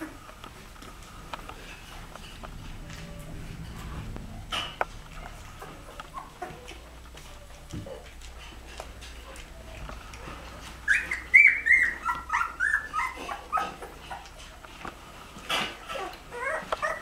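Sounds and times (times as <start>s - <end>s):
puppies whimpering and squealing: 0.0s - 17.0s.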